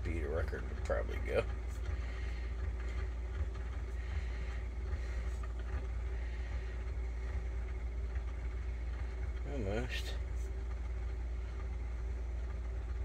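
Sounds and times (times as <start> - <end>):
faint hum: 0.0 - 13.0
spring motor whirring: 0.7 - 13.0.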